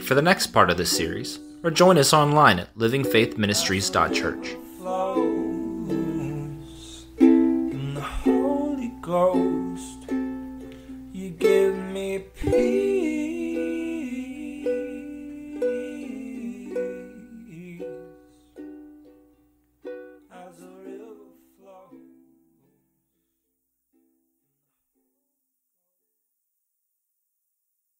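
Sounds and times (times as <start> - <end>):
plucked strings music: 0.0 - 22.8.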